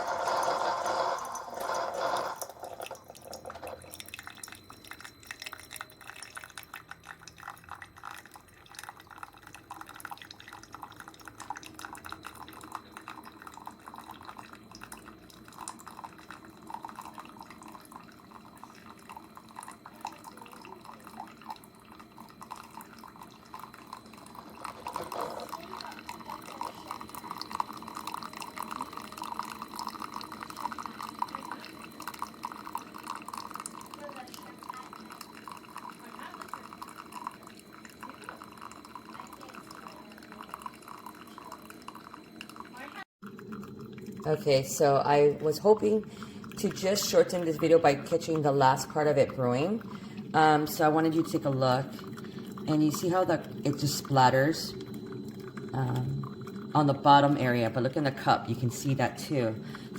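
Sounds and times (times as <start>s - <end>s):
coffee dripping into mug: 0.0s - 59.9s.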